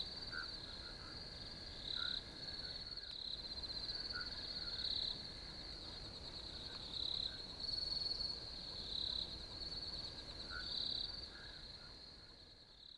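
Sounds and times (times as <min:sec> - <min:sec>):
insects trilling: 0:00.0 - 0:12.6.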